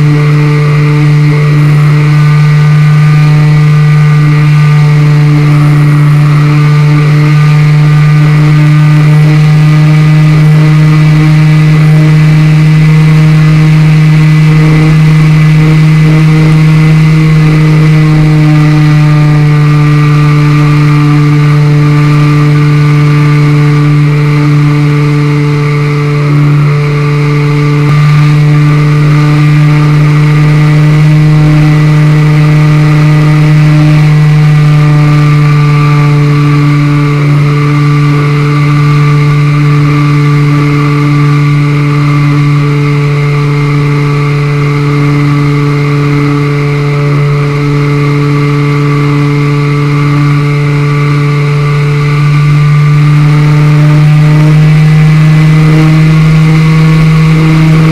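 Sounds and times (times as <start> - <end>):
model plane motor and propeller: 0.0 - 57.9
rushing air: 0.0 - 57.9.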